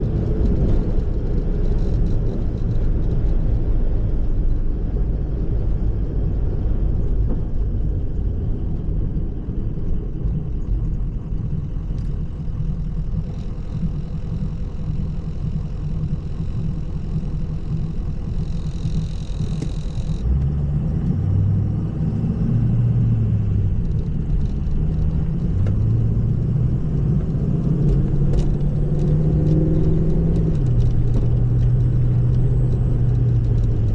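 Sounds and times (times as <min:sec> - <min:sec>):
high whine: 0:00.0 - 0:33.9
vehicle engine and road rumble: 0:00.0 - 0:33.9.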